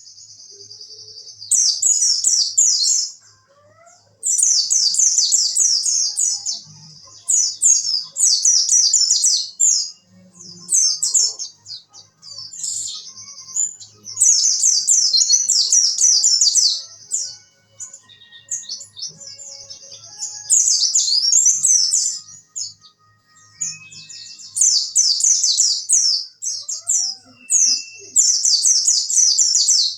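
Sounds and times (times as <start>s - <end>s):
bird singing high chirping trills: 0.0s - 29.9s.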